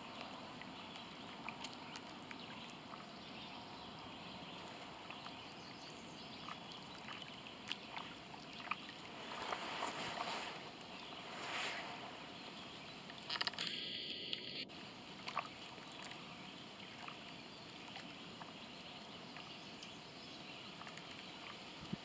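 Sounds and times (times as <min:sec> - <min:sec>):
little water splashes: 0:00.0 - 0:13.6, 0:15.1 - 0:19.9, 0:20.6 - 0:22.0
small waves lapping at shore: 0:00.0 - 0:22.0.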